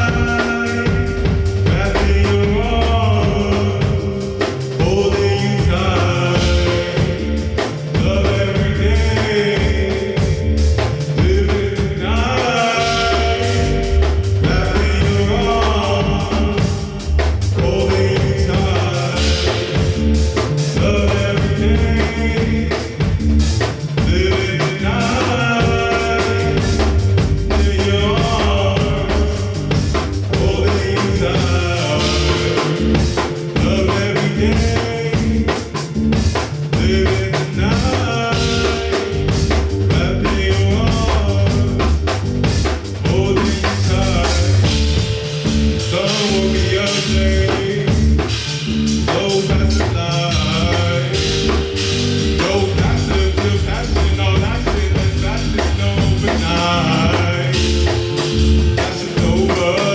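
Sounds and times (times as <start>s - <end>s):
bass: 0.0s - 59.9s
drum kit: 0.0s - 59.9s
melodic lines: 0.0s - 59.9s.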